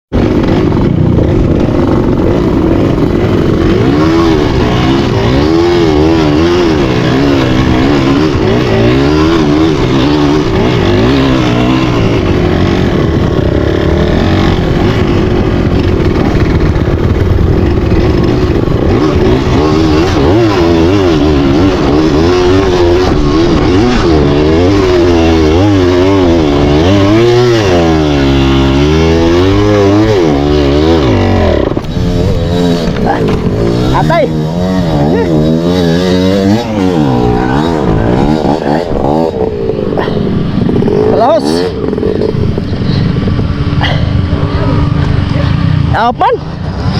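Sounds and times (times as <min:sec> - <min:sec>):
dirt bike engine revving: 0:00.2 - 0:46.9.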